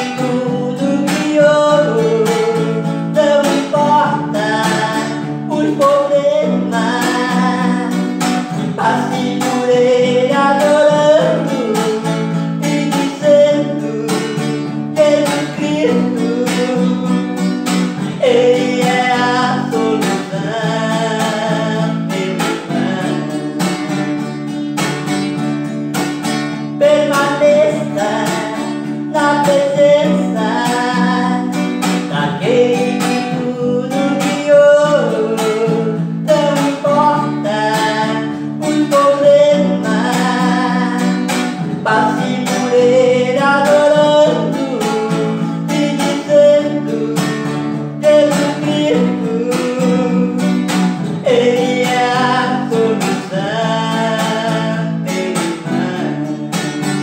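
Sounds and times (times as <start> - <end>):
acoustic guitar strumming: 0.0 - 57.0
man singing: 0.0 - 57.0.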